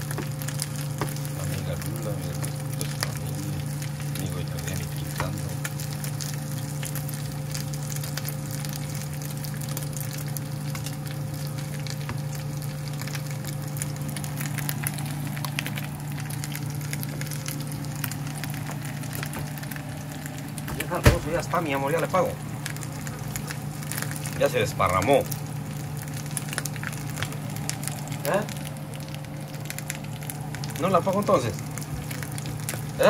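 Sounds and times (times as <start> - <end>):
chicken sizzling in oil: 0.0 - 33.0
low hum: 0.0 - 33.0.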